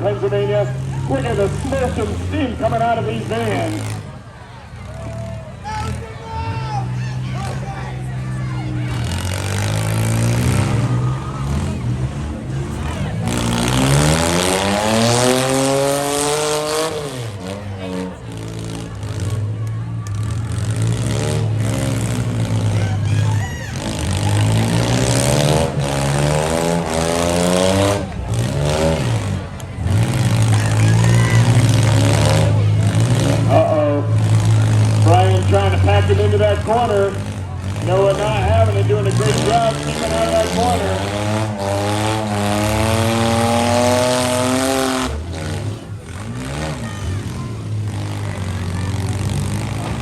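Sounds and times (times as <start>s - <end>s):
van engines revving: 0.0s - 50.0s.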